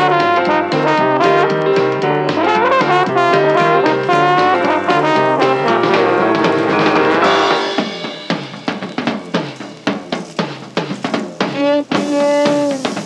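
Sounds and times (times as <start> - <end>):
jazz brass music: 0.0 - 13.0.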